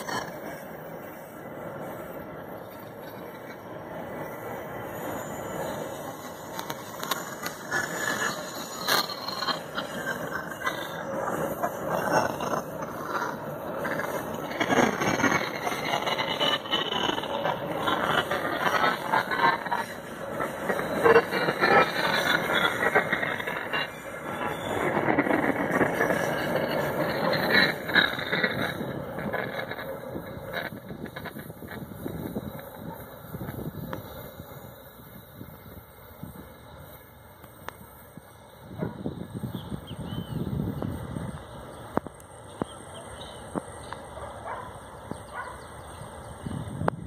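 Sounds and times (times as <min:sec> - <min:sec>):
train wheels rumbling: 0:00.0 - 0:47.0.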